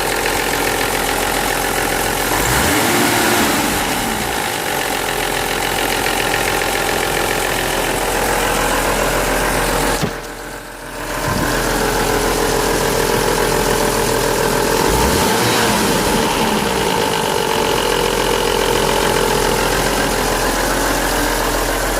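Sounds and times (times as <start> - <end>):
car engine running with rattle: 0.0 - 21.9.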